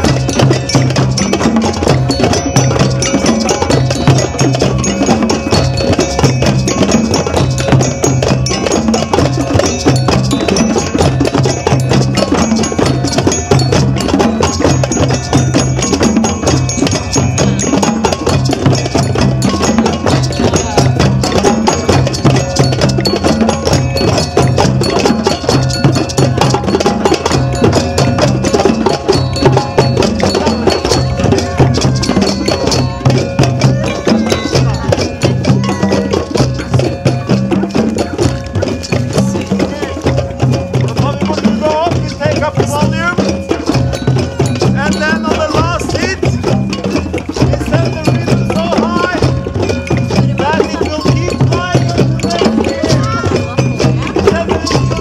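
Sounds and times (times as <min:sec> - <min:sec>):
deep bass drum pattern: 0:00.0 - 0:55.0
hand drums playing: 0:00.0 - 0:55.0
metal bell ringing: 0:00.0 - 0:55.0.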